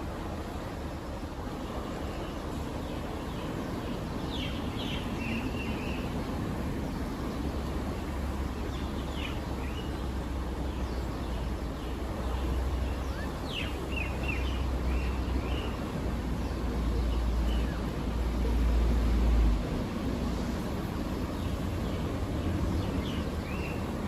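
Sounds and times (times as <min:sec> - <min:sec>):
small birds chirping: 0:00.8 - 0:19.4, 0:20.3 - 0:24.0.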